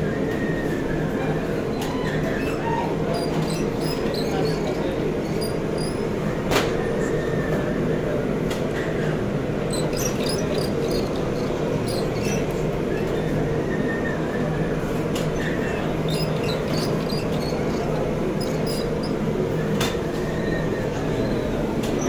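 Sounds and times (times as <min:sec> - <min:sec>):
conveyor motor and belt hum: 0:00.0 - 0:22.0.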